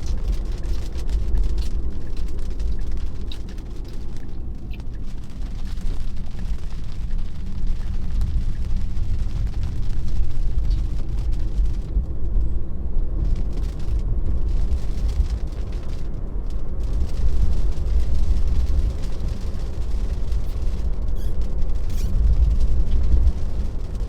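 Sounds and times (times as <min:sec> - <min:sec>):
tyres rumbling on road: 0:00.0 - 0:24.0.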